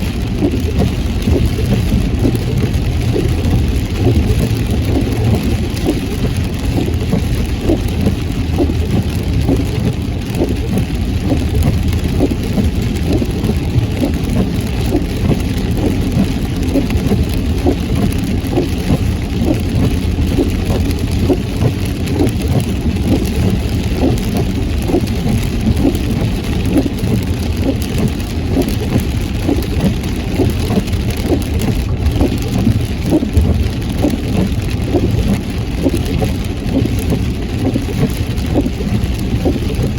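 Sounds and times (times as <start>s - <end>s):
heavy rain on a car: 0.0s - 39.9s
tyre and engine noise: 0.0s - 39.9s.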